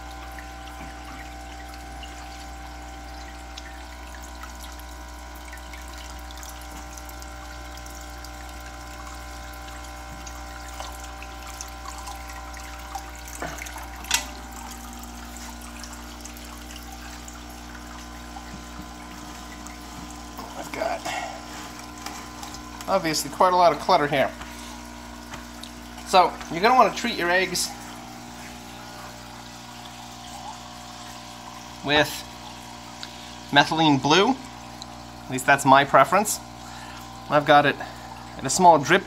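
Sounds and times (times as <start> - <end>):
aquarium water trickling and bubbling: 0.0 - 39.0
glass jar filling with water: 0.0 - 39.0
steady hum: 0.0 - 39.0.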